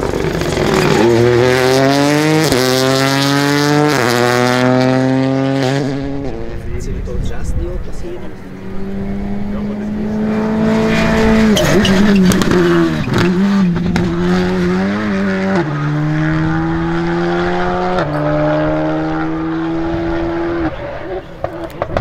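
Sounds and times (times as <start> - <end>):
rally car engine at high revs: 0.0 - 6.7, 8.4 - 22.0.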